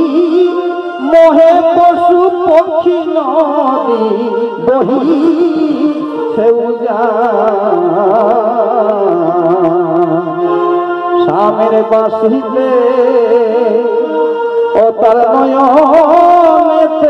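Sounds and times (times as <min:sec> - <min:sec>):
folk melody with vibrato: 0:00.0 - 0:17.0.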